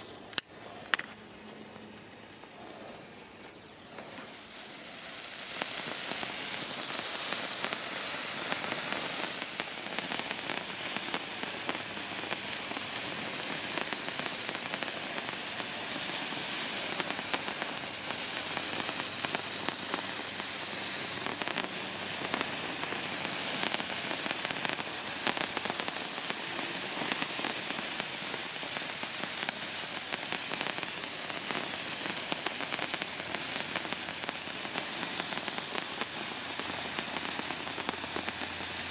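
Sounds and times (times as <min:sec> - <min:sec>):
sparkler hissing and crackling: 0:00.0 - 0:38.9.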